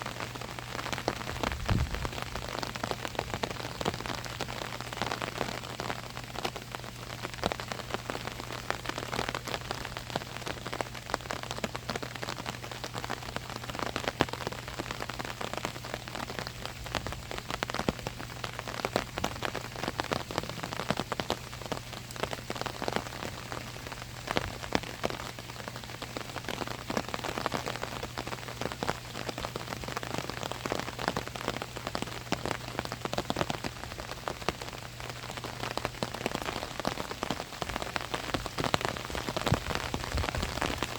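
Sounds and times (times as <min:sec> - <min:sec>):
rain on umbrella: 0:00.0 - 0:40.9.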